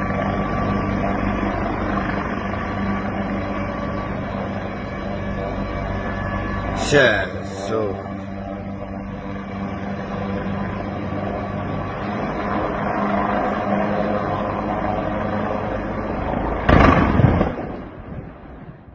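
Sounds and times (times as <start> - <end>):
helicopter rotor and turbine: 0.0 - 18.9.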